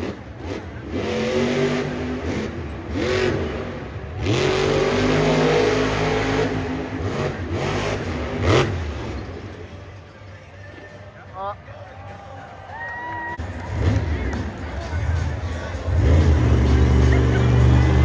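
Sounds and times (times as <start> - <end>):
truck engine revving: 0.0 - 9.9, 13.4 - 18.0.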